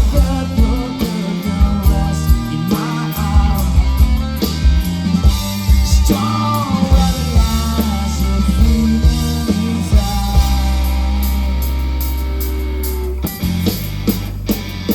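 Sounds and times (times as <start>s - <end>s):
rock band instrumental: 0.0s - 14.9s.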